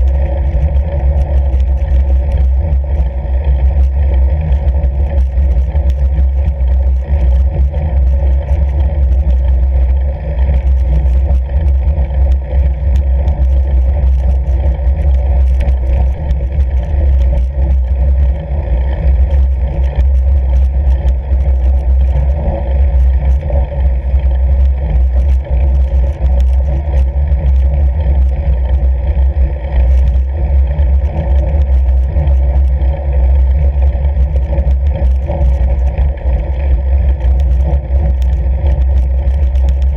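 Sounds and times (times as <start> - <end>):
bike rattling: 0.0 - 39.9
wind noise on microphone: 0.0 - 39.9.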